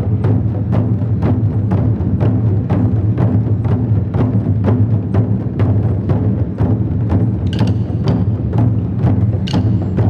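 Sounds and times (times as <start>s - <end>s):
gong and drum ensemble: 0.0s - 10.0s.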